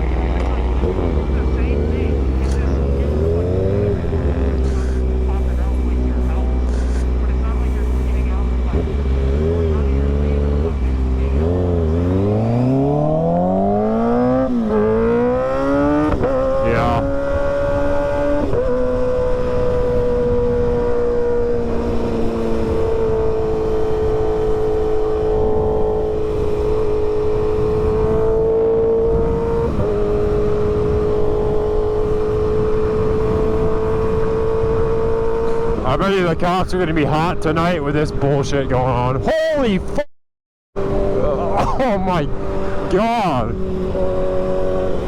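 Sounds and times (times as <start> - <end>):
road and wind noise: 0.0 - 40.1, 40.8 - 45.0
vehicle engine accelerating: 0.0 - 40.1, 40.8 - 45.0.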